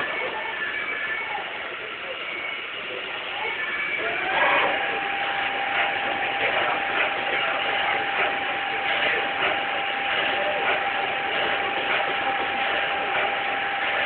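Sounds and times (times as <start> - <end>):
lathe machine noise: 0.0 - 14.0
steady high whine: 0.0 - 14.0.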